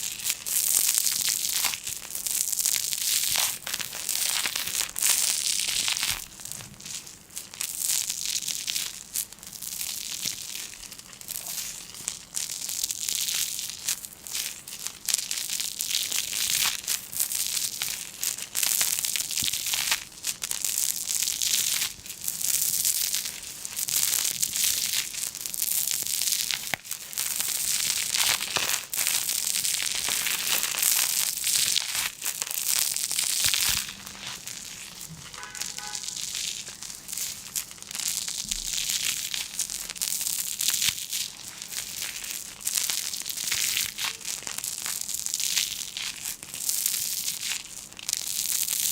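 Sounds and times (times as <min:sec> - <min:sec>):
stiff material crinkling: 0:00.0 - 0:48.9.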